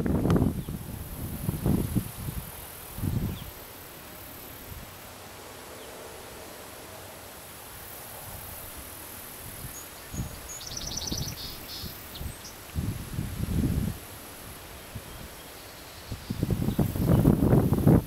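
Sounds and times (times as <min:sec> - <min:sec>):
insect hiss: 0:00.0 - 0:18.0.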